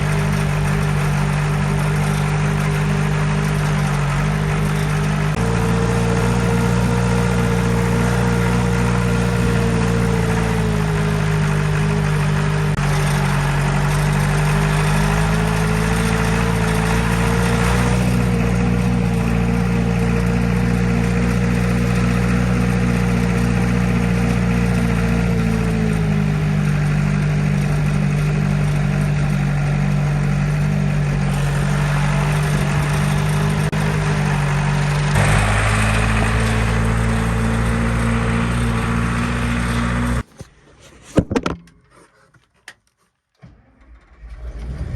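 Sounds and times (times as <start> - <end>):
combine harvester engine drone: 0.0 - 40.3
machinery clatter: 0.0 - 40.3.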